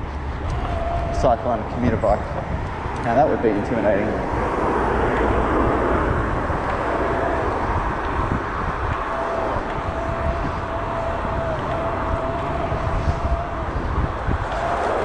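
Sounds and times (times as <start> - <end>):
road noise: 0.0 - 15.0
thin steady whine: 0.0 - 15.0
wind on microphone: 0.0 - 15.0.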